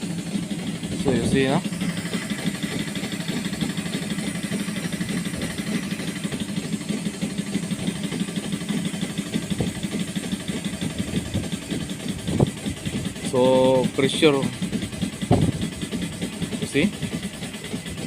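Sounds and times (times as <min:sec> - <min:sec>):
machine humming with flutter: 0:00.0 - 0:18.0.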